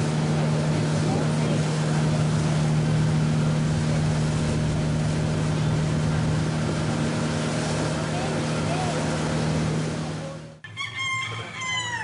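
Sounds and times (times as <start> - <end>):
water noise: 0.0 - 10.6
motorboat engine droning: 0.0 - 12.0.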